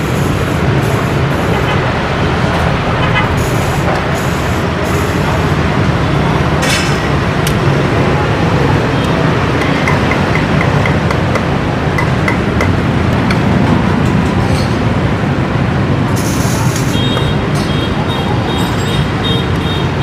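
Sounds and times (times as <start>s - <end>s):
roadside traffic: 0.0s - 20.0s.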